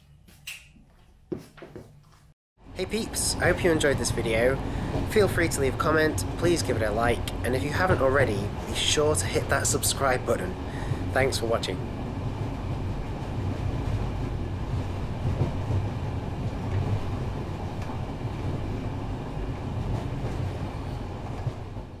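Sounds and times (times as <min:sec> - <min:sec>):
train rumbling: 0:02.6 - 0:22.0.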